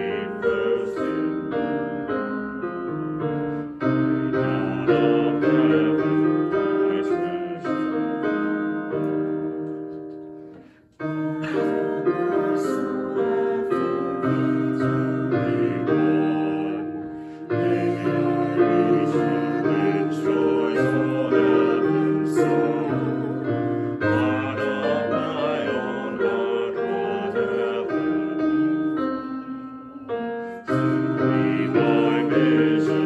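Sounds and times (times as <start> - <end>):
digital piano playing a hymn: 0.0 - 33.0.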